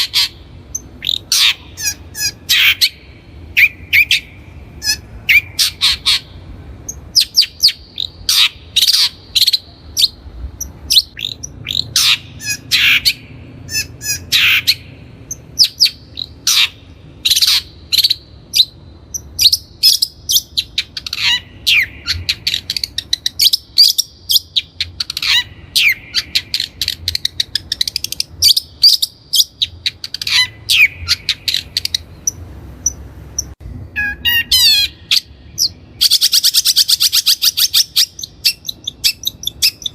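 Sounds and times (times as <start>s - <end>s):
bird singing with chattering trills: 0.0s - 39.9s.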